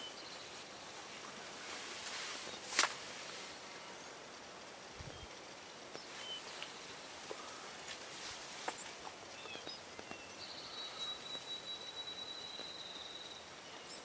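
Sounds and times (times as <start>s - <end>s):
songbirds chirping and whistling: 0.0s - 4.4s, 5.0s - 14.0s.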